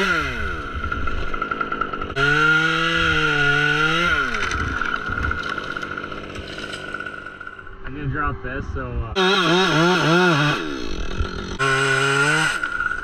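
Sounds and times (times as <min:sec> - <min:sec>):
chainsaw engine revving: 0:00.0 - 0:07.9, 0:09.2 - 0:13.0.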